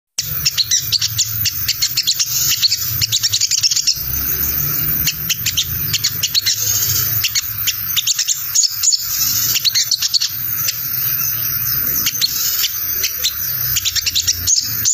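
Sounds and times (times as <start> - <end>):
bird chattering call: 0.2 - 14.9.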